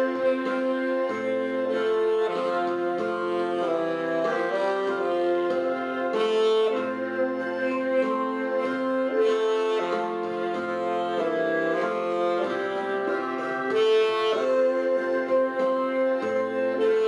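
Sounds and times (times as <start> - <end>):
saxophone ensemble playing a hymn: 0.0 - 17.0.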